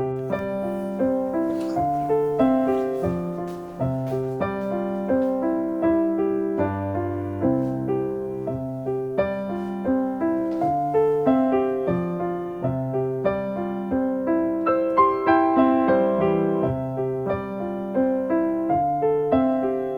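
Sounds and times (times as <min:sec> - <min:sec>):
soft piano music: 0:00.0 - 0:19.9.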